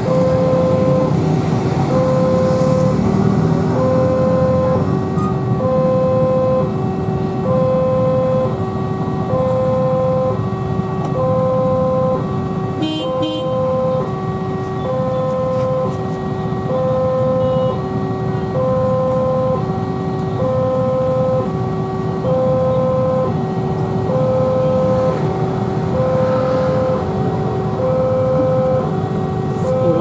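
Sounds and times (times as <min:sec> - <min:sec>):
level crossing two-tone alarm: 0:00.0 - 0:01.2, 0:01.8 - 0:06.8, 0:07.4 - 0:25.2, 0:25.9 - 0:30.0
road traffic: 0:00.0 - 0:30.0.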